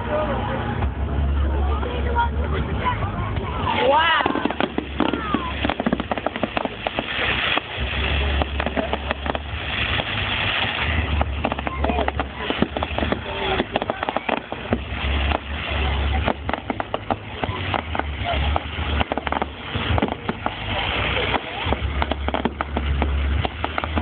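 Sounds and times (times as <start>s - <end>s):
spectators' voices: 0.0s - 24.0s
fireworks popping and crackling: 3.3s - 24.0s.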